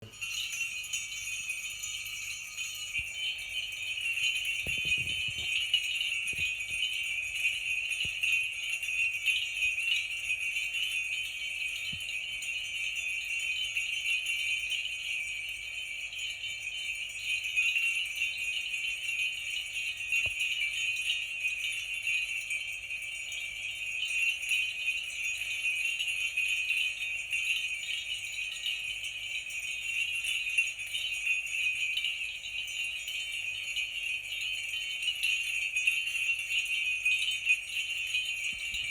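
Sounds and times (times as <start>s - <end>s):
sleigh bells jingling: 0.0s - 38.9s.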